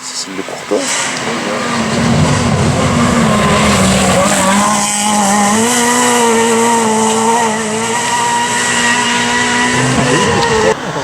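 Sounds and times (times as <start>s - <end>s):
rally car engine at high revs: 0.7s - 11.0s.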